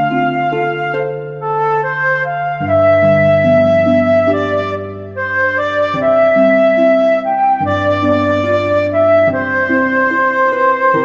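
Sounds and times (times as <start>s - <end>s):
melody over sustained chords: 0.0s - 11.0s.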